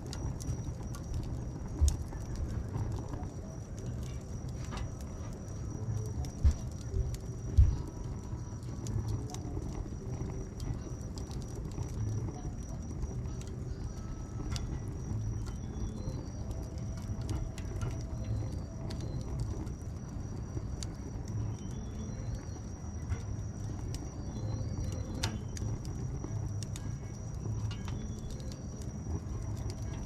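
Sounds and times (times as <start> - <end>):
bonfire crackling and popping: 0.0 - 30.0
low fire rumble: 0.0 - 30.0.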